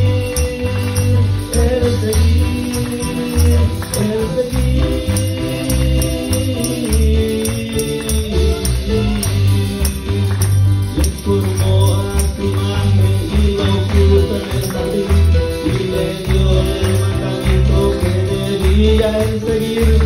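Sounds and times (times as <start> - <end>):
live worship band playing: 0.0 - 20.0.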